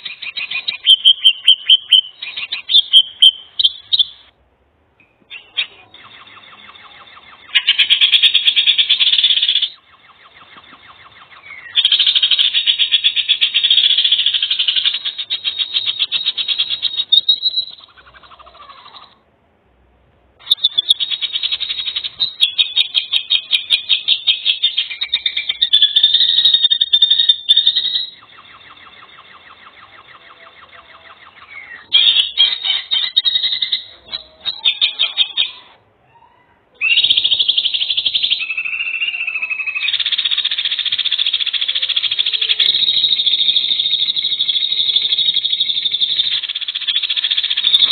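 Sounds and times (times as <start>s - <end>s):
high pulsing trilled calls: 0.0s - 4.4s, 5.2s - 19.2s, 20.4s - 35.8s, 36.8s - 47.9s.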